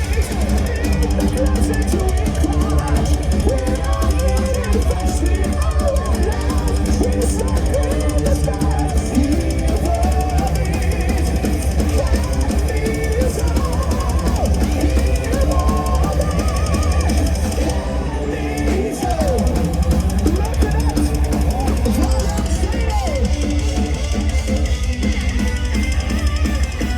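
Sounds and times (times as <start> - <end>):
bass drum: 0.0 - 17.9, 18.6 - 26.9
electric guitars: 0.0 - 26.9
heavy metal band playing: 0.0 - 26.9.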